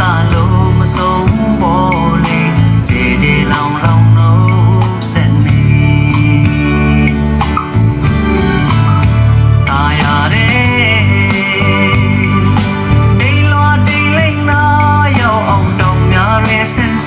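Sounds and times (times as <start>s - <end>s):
song with singing and guitar: 0.0s - 17.0s.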